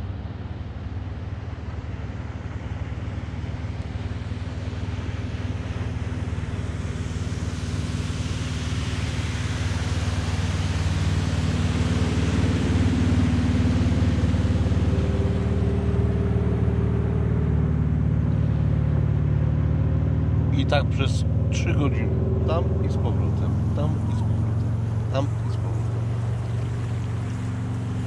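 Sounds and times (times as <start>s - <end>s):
motor engine humming: 0.0s - 28.0s.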